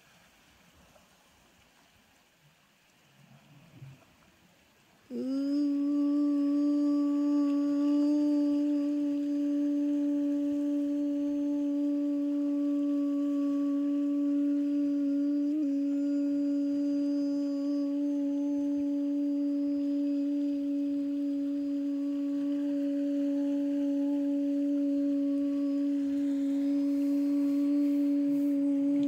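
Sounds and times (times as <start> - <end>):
steady held tone: 5.1 - 29.0.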